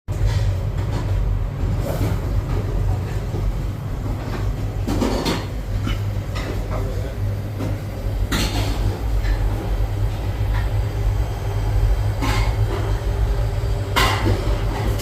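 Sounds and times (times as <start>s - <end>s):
compressor humming: 0.1s - 15.0s.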